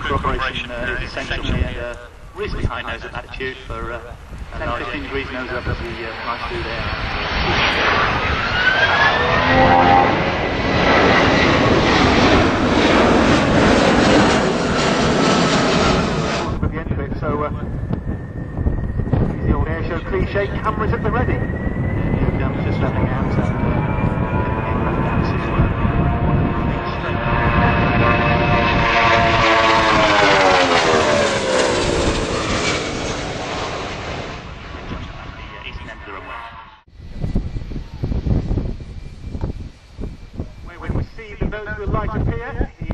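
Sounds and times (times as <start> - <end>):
jet airliner roaring past: 0.0 - 42.9
jet engine whine rising: 0.0 - 42.9.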